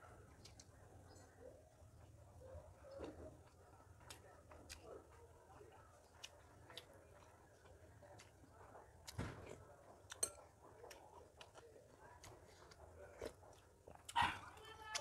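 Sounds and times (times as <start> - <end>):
quiet chewing and mouth noises: 0.0 - 15.0.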